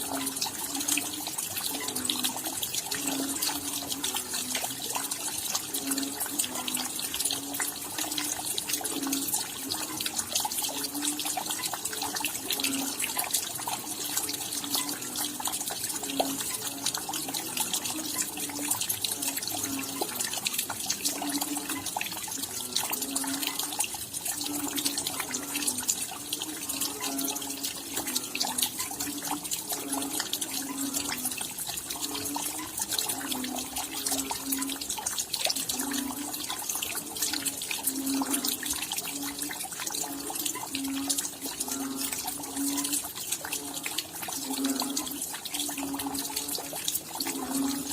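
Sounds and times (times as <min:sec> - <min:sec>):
rain pattering: 0:00.0 - 0:47.9
water running and dripping: 0:00.0 - 0:47.9.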